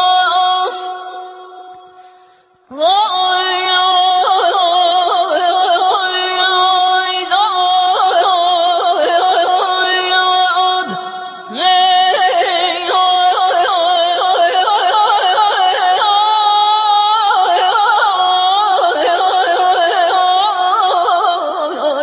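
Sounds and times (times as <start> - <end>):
person singing in husky voice: 2.7 - 22.0.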